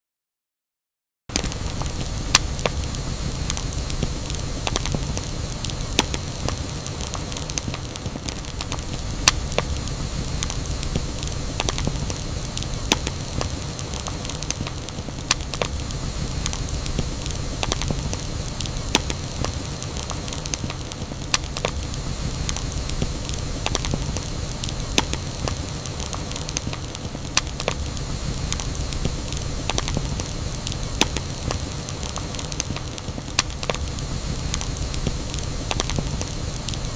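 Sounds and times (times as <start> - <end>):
wood fire crackling and popping: 1.3 - 36.9.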